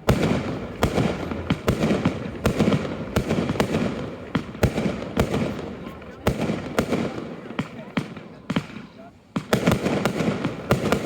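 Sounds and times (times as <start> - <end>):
fireworks crackling: 0.0 - 11.0
fireworks shells bursting: 0.0 - 11.0.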